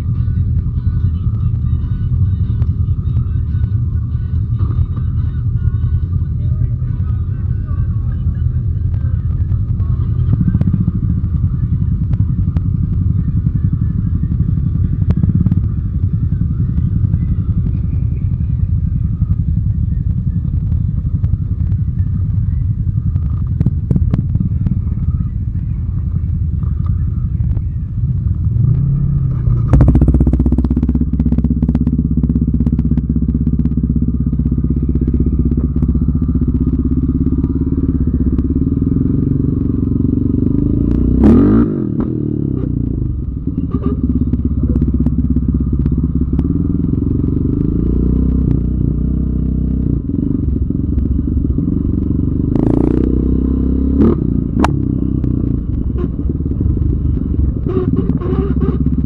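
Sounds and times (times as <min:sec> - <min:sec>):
quad bike engine revving: 0:08.3 - 0:25.1, 0:28.2 - 0:59.0.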